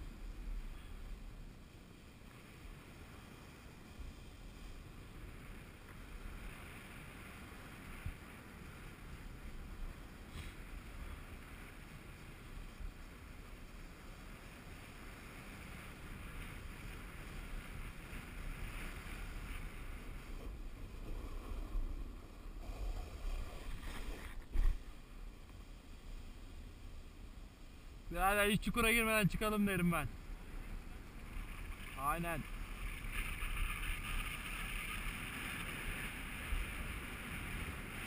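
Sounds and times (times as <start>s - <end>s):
snow hissing under a sliding rider: 0.0s - 38.0s
wind rumbling on microphone: 0.0s - 38.0s.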